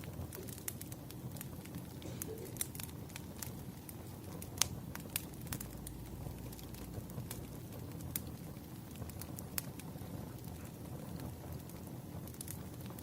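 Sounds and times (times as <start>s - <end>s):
wood fire crackling: 0.0s - 13.0s
low steady rumble: 0.1s - 12.8s.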